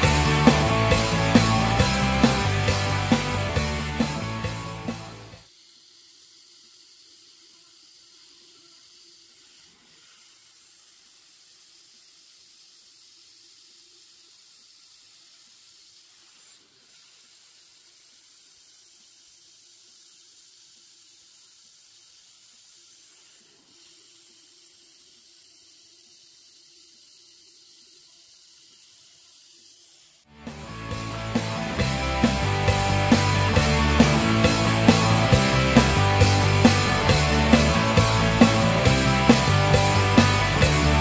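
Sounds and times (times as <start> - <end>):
coolant spray hissing: 0.0 - 41.0.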